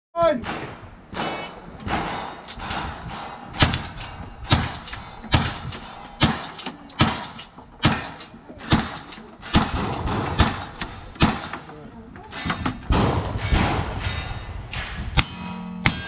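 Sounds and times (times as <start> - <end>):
rifle shots: 0.4 - 11.7, 12.3 - 15.0.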